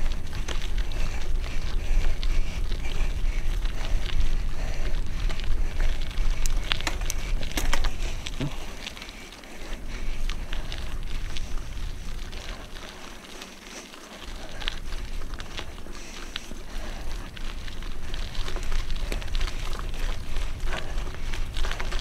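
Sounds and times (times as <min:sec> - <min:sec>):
bike clicking and rattling: 0:00.0 - 0:22.0
tyres crunching over gravel: 0:00.0 - 0:22.0
wind rumbling on microphone: 0:00.0 - 0:22.0.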